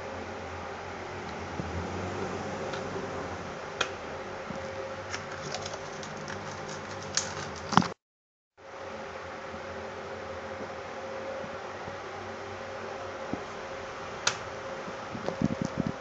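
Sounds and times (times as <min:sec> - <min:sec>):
steady hum and hiss: 0:00.0 - 0:08.0, 0:08.6 - 0:16.0.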